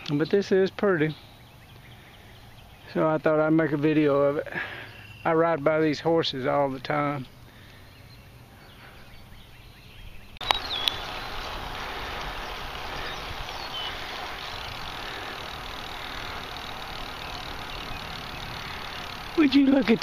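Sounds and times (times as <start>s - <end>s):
wind and road noise from bicycle: 0.0s - 20.0s.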